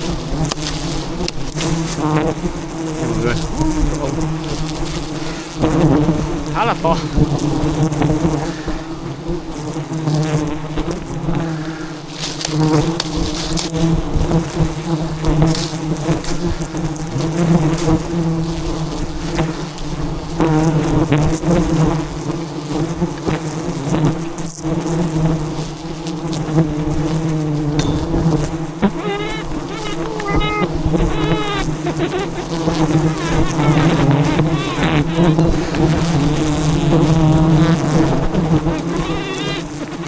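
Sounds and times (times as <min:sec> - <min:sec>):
bees buzzing: 0:00.0 - 0:40.0.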